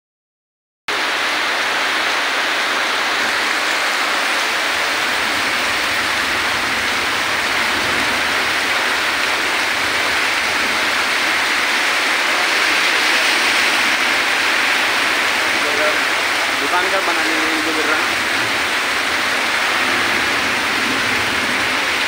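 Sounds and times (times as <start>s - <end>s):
torrential rain: 0.9s - 22.0s.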